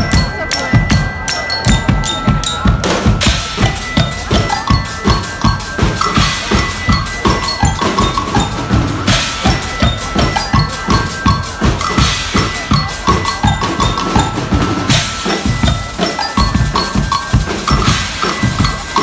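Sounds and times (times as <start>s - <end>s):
bass and snare drums beating: 0.0s - 19.0s
cymbals crashing: 0.0s - 19.0s.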